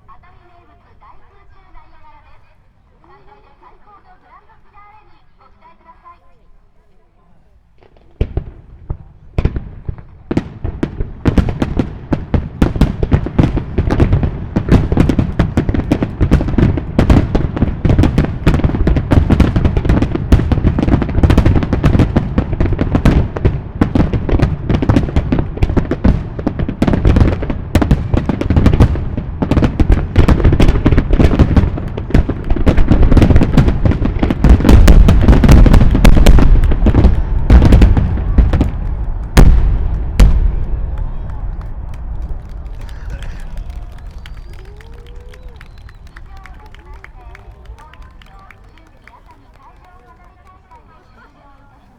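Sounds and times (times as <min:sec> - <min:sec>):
low fireworks booming: 0:07.7 - 0:51.0
fireworks bangs and crackles: 0:07.7 - 0:51.9.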